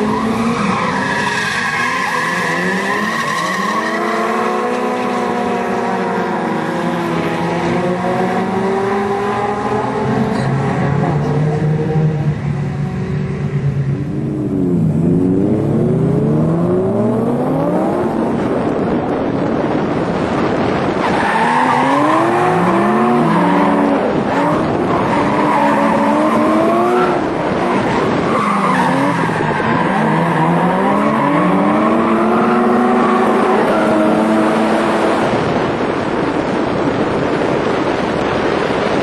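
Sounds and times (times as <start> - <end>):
car engine revving: 0.0 - 39.0
tyres skidding: 0.0 - 39.0.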